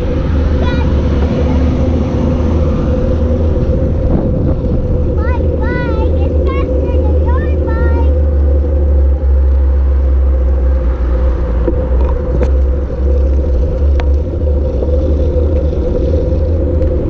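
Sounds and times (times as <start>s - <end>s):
bicycle rolling hum: 0.0s - 17.0s
wind rumble on microphone: 0.0s - 17.0s.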